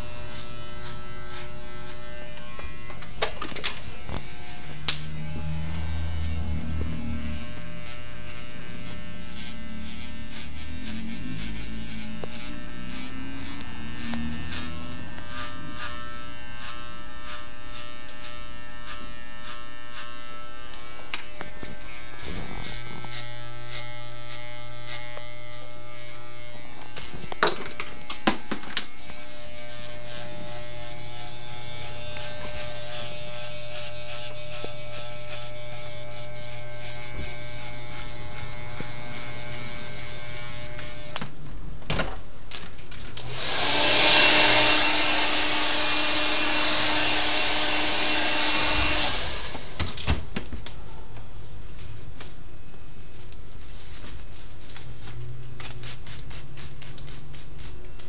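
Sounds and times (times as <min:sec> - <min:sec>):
electric hair clippers cutting hair: 0:00.0 - 0:41.3, 0:43.2 - 0:50.0.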